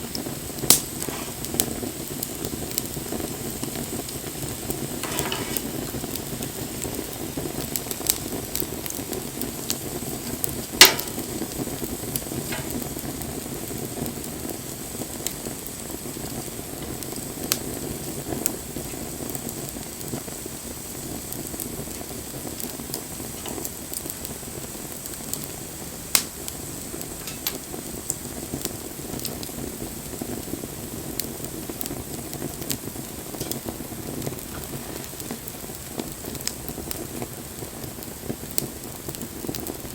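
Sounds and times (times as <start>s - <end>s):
campfire crackling: 0.0s - 39.9s
sharp pops from fire: 0.0s - 39.9s.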